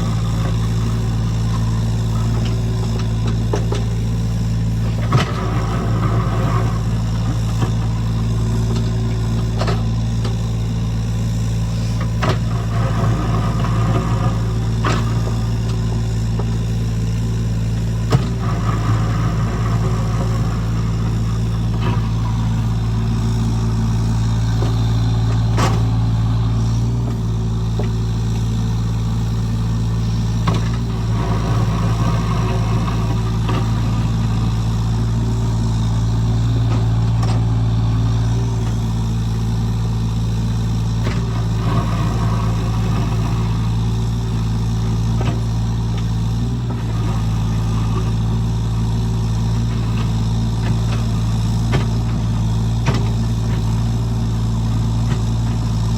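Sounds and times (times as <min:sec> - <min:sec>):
heavy machinery engine running: 0:00.0 - 0:55.9.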